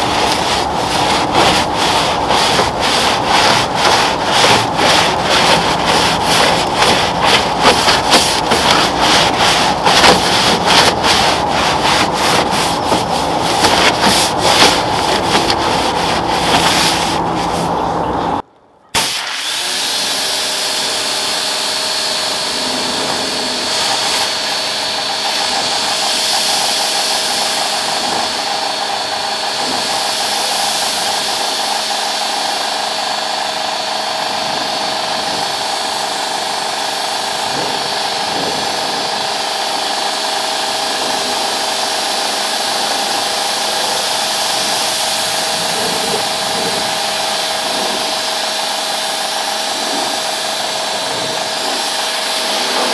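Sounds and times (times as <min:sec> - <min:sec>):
pressure washer motor whine: 0:00.0 - 0:52.9.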